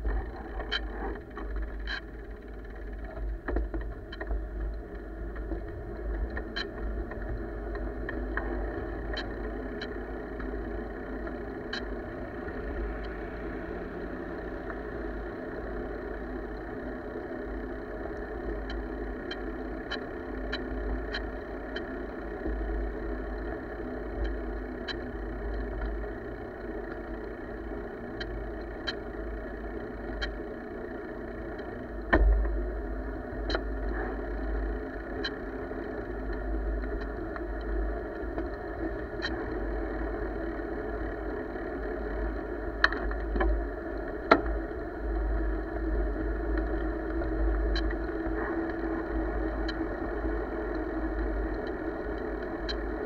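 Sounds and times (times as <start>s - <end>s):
bicycle tyre road noise: 0.0s - 53.0s.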